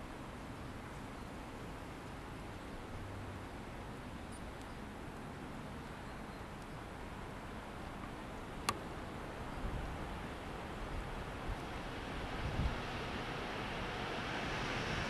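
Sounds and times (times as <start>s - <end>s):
railway platform background noise: 0.0s - 15.0s.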